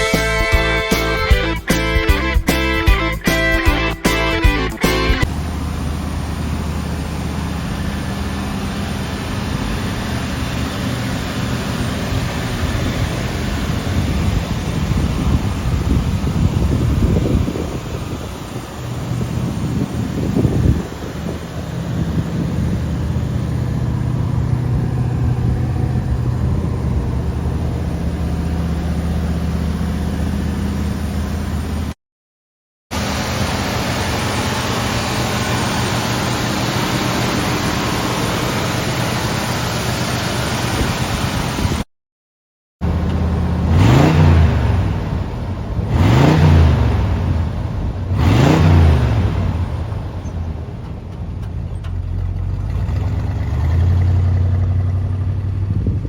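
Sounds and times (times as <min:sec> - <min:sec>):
car engine idling: 0:00.0 - 0:31.9, 0:33.0 - 0:41.4, 0:42.8 - 0:55.9
engine revving: 0:00.0 - 0:32.0, 0:33.0 - 0:41.3, 0:42.8 - 0:56.0.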